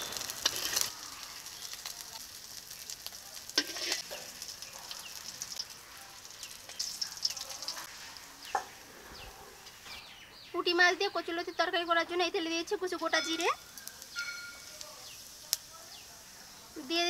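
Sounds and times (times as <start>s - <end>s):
hot oil sizzling and crackling: 0.0s - 17.0s.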